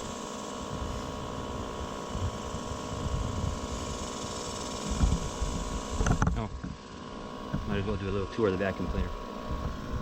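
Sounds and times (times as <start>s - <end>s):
vacuum fan motor humming: 0.0s - 10.0s.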